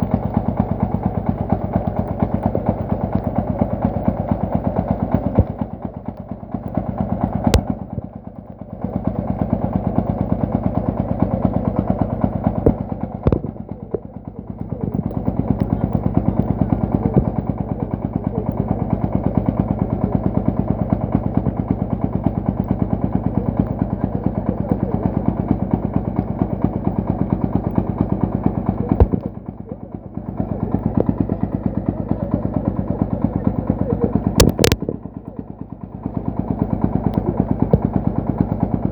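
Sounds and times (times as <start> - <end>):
diesel engine chugging: 0.0 - 38.9
sharp engine knock: 0.0 - 38.9.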